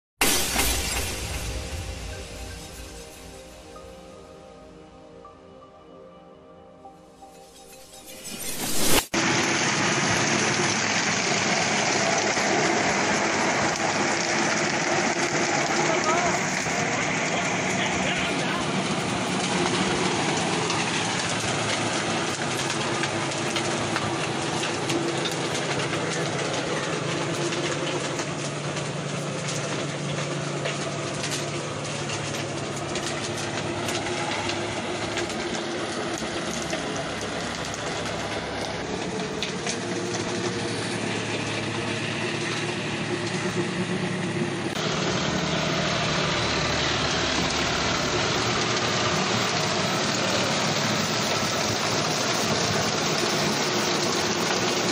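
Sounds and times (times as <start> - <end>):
rotavator churning muddy soil: 9.2 - 54.9
tractor diesel engine under load: 9.2 - 54.9.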